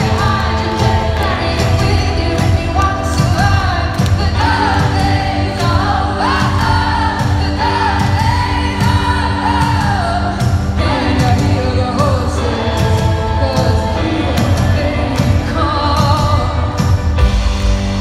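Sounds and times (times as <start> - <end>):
woman singing: 0.0 - 17.2
live pop-rock band playing: 0.0 - 18.0
steady drum beat: 0.0 - 18.0.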